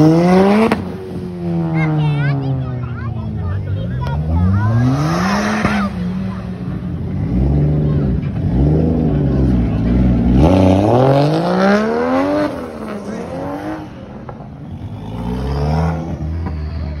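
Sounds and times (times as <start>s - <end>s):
car engine revving hard: 0.0s - 2.4s, 4.1s - 16.5s.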